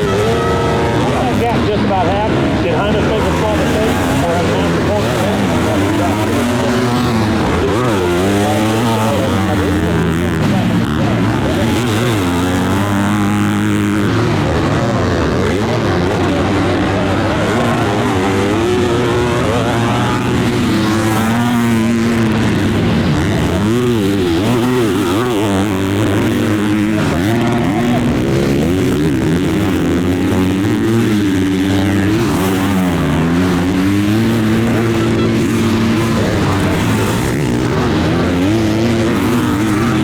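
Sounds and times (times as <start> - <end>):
motocross bikes revving: 0.0 - 40.0.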